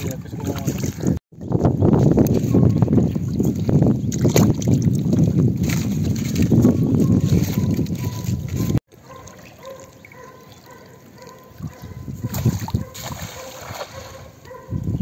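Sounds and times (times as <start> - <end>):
water trickling and splashing: 0.0 - 14.6.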